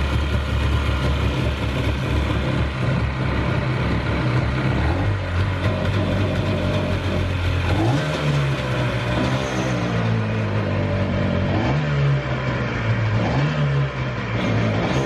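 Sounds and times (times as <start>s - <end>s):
jet ski engine revving: 0.0s - 15.0s.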